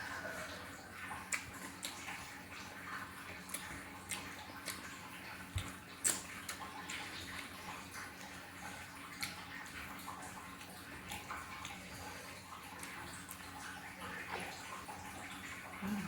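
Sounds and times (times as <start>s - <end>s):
person chewing with wet clicks: 0.0s - 16.0s.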